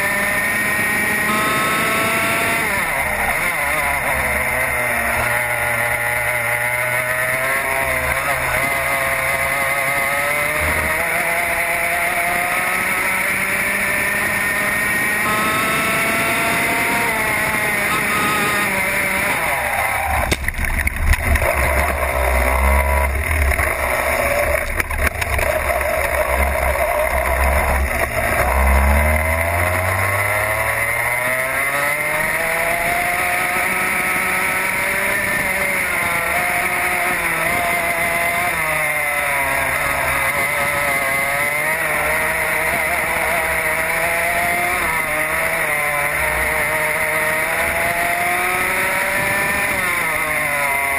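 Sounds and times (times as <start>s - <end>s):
kart engine revving: 0.0s - 50.9s.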